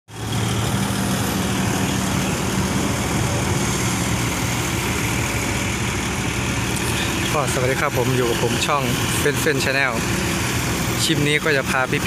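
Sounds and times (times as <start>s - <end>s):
heavy diesel engines running: 0.1s - 12.0s.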